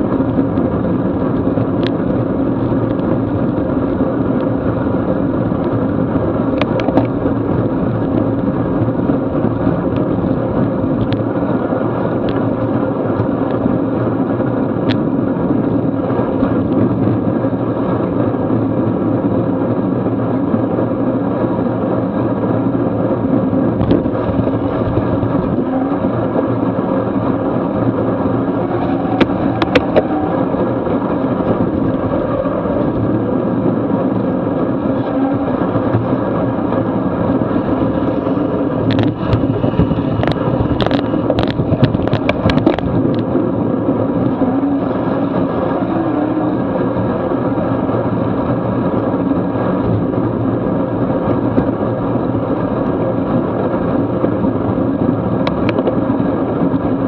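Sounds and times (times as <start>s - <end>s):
bicycle road noise: 0.0s - 57.0s
wind rushing: 0.0s - 57.0s.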